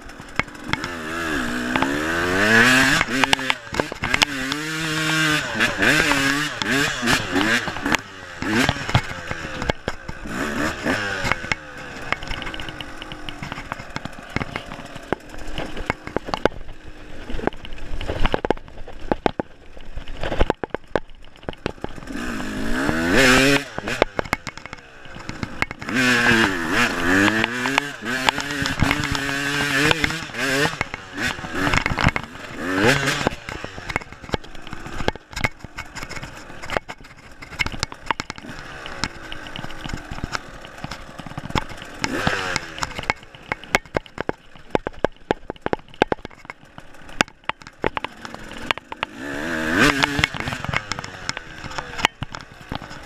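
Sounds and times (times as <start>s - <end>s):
dirt bike engine revving: 0.0s - 53.0s
sharp knocks and clatter: 0.0s - 53.0s.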